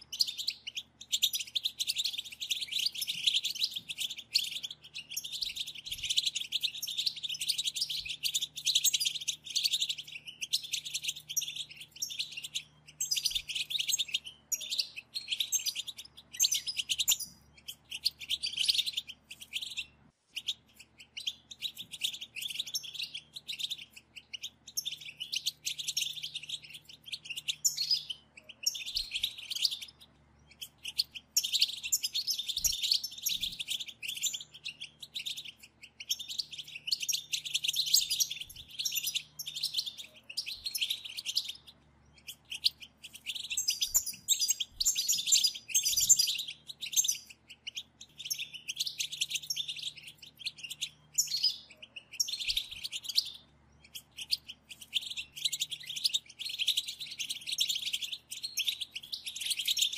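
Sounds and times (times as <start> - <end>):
finches twittering: 0.0 - 59.9.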